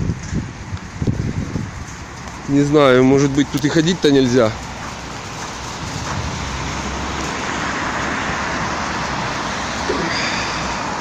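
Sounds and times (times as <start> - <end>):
city traffic hiss and rumble: 0.0 - 11.0.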